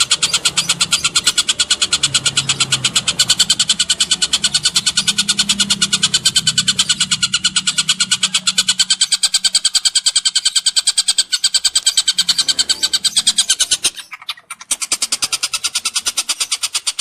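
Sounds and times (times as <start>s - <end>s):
songbird trilling: 0.0s - 17.0s.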